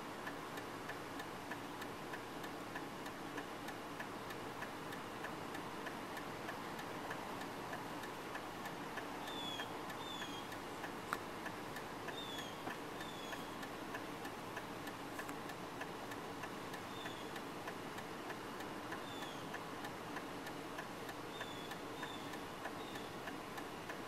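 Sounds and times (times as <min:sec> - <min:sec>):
light regular ticking: 0:00.0 - 0:24.0
steady low hiss: 0:00.0 - 0:24.0.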